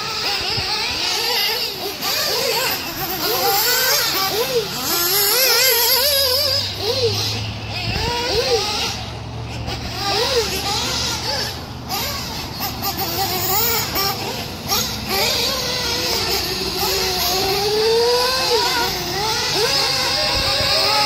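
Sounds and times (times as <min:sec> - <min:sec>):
model car engine revving: 0:00.0 - 0:21.0.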